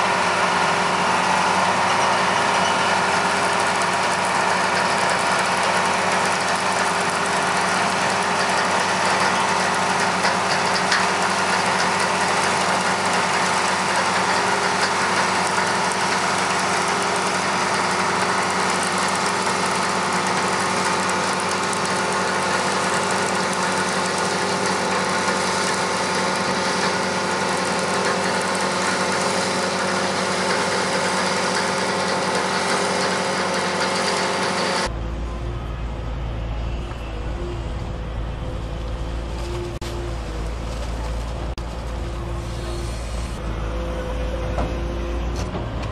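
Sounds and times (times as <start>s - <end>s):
dredging machine engine running: 0.0s - 45.9s.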